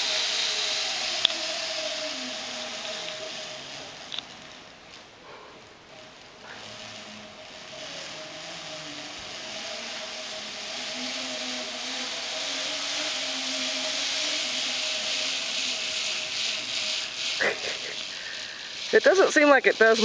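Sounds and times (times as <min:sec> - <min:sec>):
pulley wheels whirring on cable: 0:00.0 - 0:20.0.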